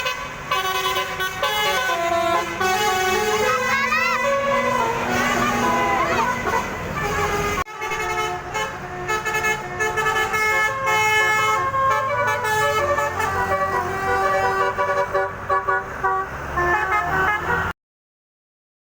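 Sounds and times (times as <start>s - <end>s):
electric bus horn playing a tune: 0.0s - 17.7s.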